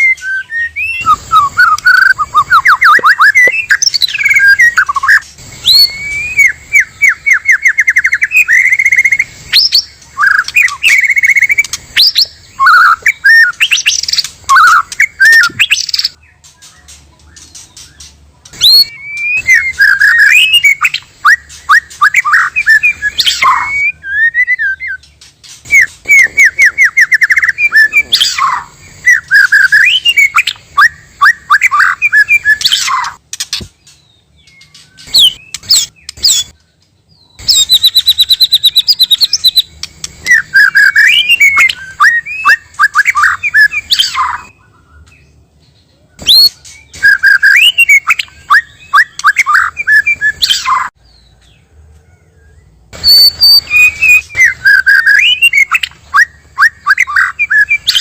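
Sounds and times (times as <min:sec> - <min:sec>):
songbird singing trills and whistles: 0:00.0 - 0:58.0.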